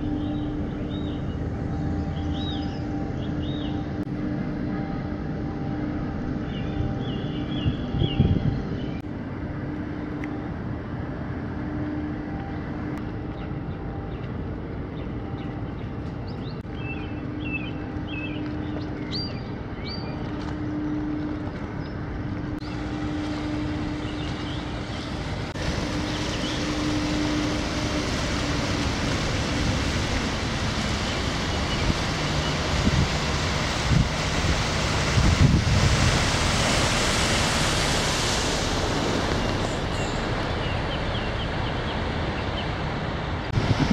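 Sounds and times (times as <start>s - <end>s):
low mechanical hum: 0.0s - 43.9s
wind gusting over microphone: 0.0s - 43.9s.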